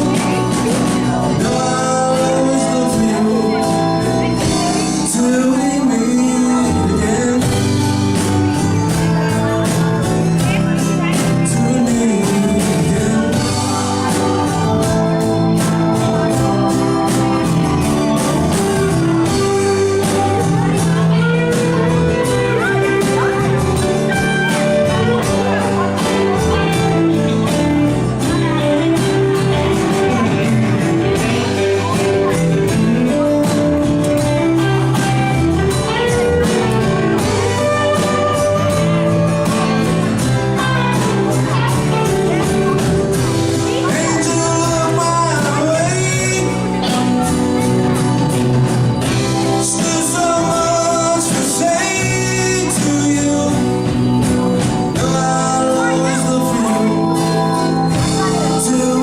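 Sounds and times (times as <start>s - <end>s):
live rock band playing: 0.0s - 59.0s
person singing: 0.0s - 59.0s
steady drum beat: 0.0s - 59.0s.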